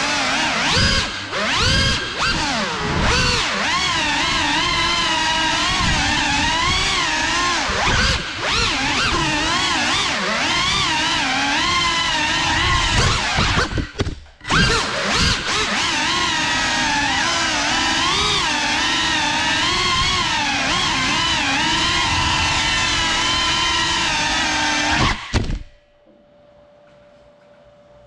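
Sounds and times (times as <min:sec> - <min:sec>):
drone motors whining: 0:00.0 - 0:25.8.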